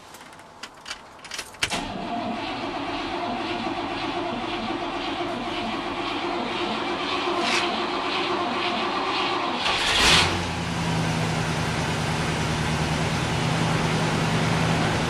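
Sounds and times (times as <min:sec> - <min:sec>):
car engine starting and running: 0:00.1 - 0:15.0.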